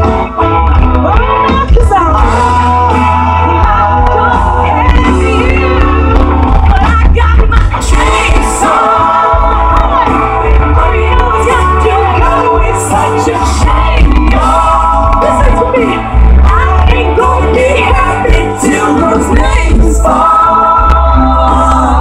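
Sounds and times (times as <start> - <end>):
country-rock band playing: 0.0 - 22.0
heavy steady bass: 0.0 - 22.0
person singing: 0.9 - 22.0.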